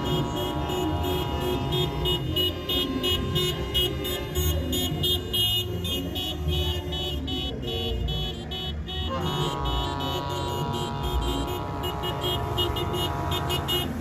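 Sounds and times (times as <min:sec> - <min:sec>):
vans driving slowly past: 0:00.0 - 0:14.0
vehicle horn: 0:00.0 - 0:14.0.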